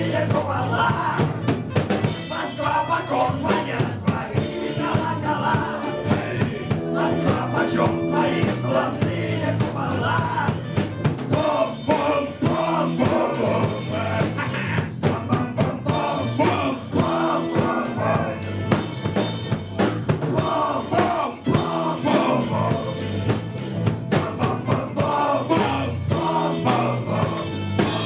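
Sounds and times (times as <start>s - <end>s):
rock band playing: 0.0s - 28.0s
bass drum and snare hits: 3.6s - 28.0s.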